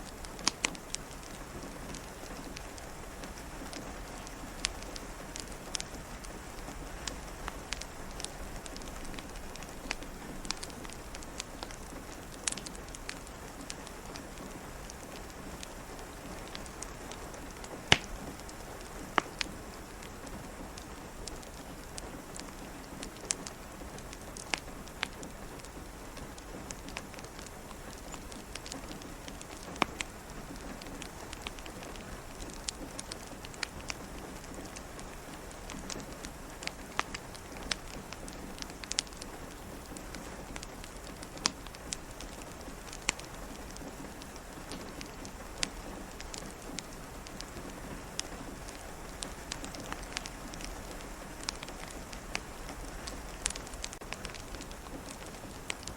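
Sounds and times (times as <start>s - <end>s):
rain pattering: 0.0s - 55.9s
wood fire crackling: 0.0s - 55.9s.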